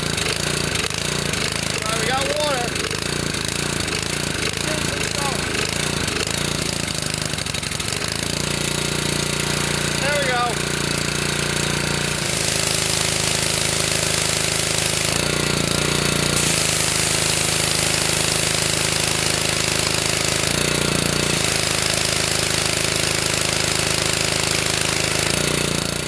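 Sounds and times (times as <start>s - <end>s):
pressure washer engine running: 0.0s - 26.0s.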